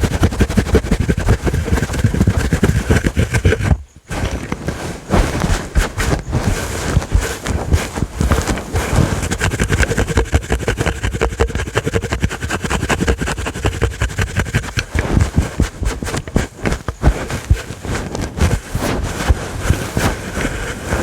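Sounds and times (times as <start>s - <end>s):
fingers scratching microphone windscreen: 0.0s - 21.0s.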